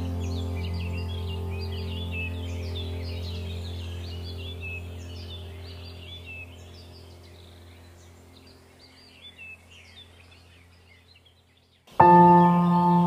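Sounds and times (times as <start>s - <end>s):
birds chirping: 0.0s - 13.0s
low steady music drone: 0.0s - 13.0s.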